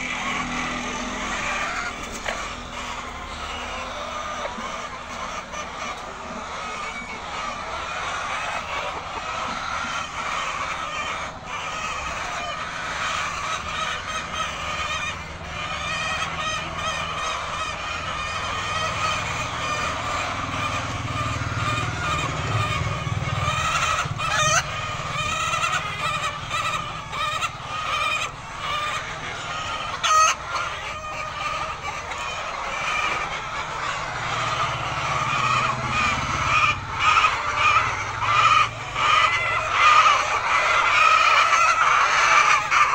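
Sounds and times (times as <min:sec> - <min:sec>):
hens clucking: 0:00.0 - 0:42.9.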